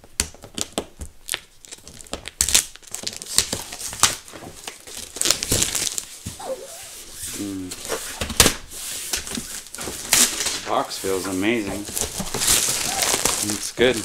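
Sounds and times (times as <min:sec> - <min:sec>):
plastic shrink-wrap crinkling: 0:00.2 - 0:07.9, 0:08.7 - 0:14.0.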